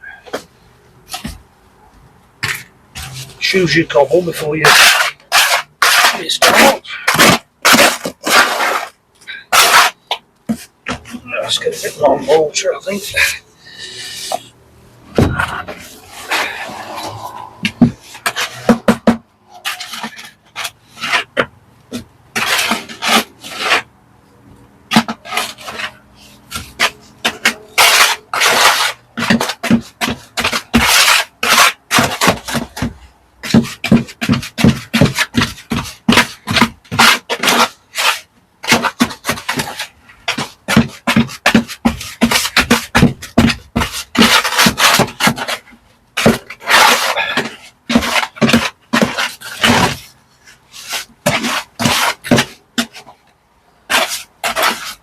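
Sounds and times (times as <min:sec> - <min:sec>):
hand tool scraping stone: 0:02.4 - 0:14.5, 0:15.2 - 0:23.9, 0:24.9 - 0:53.2, 0:53.9 - 0:55.0.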